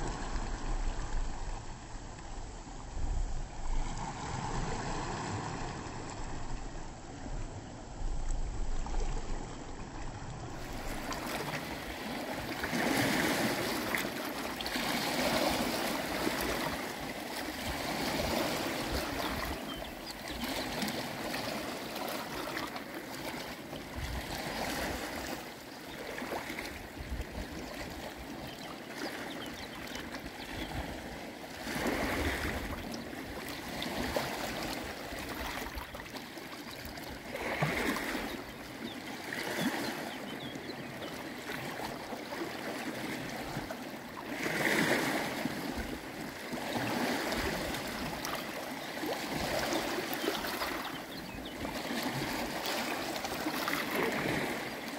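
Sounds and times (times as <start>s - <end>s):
waves lapping on rocky shore: 0.0s - 54.9s.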